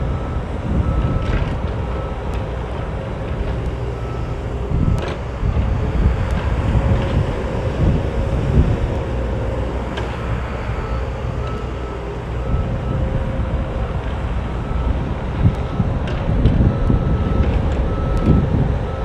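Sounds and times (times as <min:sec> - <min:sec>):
excavator diesel engine running: 0:00.0 - 0:19.0
hydraulic whine: 0:00.0 - 0:19.0.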